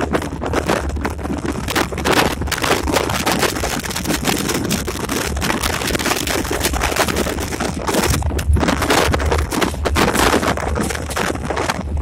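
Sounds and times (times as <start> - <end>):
cab rattling and clattering: 0.0 - 12.0
wind buffeting microphone: 0.0 - 12.0.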